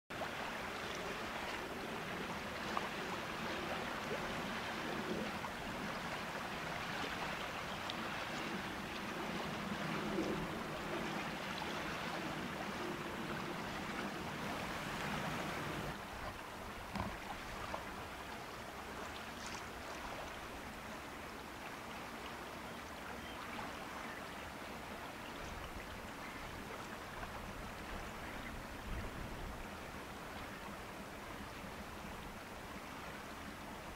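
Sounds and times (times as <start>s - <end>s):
rushing water: 0.1s - 33.9s
wind: 0.1s - 33.9s.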